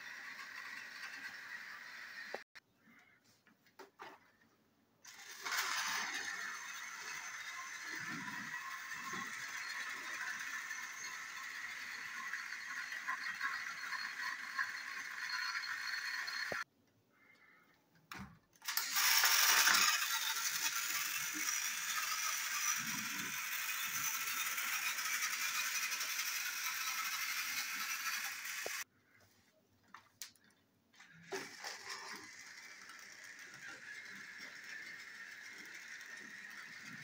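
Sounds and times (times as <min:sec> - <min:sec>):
toy train motors whirring: 0:00.0 - 0:02.6, 0:05.0 - 0:16.7, 0:18.6 - 0:28.9, 0:31.0 - 0:37.0.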